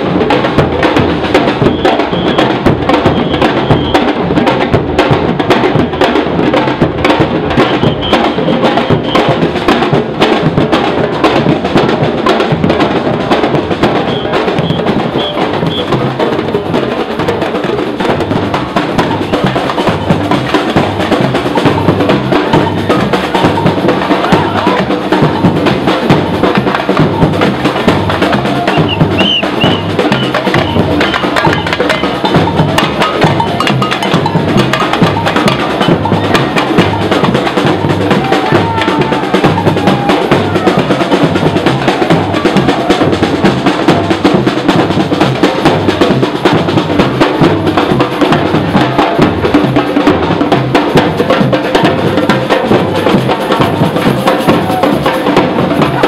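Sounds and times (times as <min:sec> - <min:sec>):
snare drums: 0:00.0 - 0:56.0
surdo bass drums: 0:00.0 - 0:56.0.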